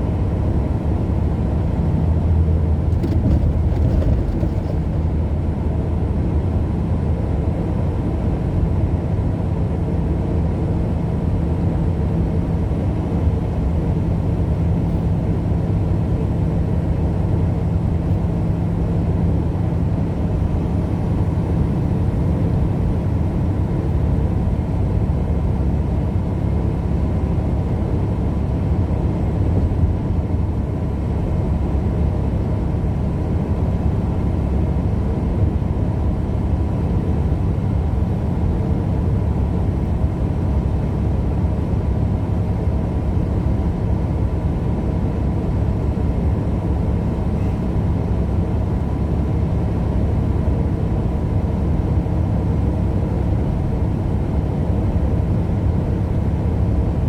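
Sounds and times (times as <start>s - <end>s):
vehicle road and engine noise: 0.0s - 57.0s.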